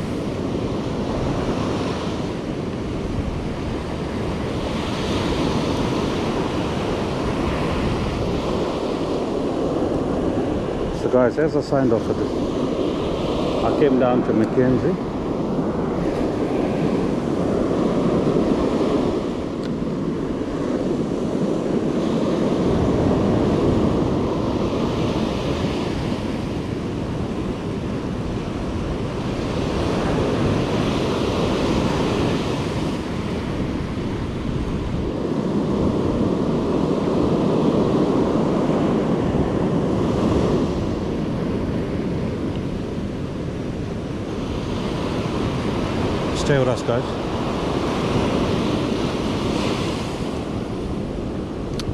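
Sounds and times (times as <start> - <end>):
ocean surf breaking on beach: 0.0 - 51.9
wind buffeting microphone: 0.0 - 51.9.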